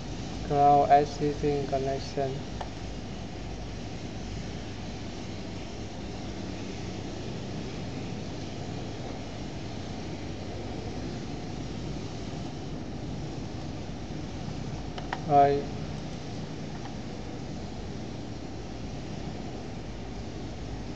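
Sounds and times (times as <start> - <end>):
even hiss: 0.0 - 20.9.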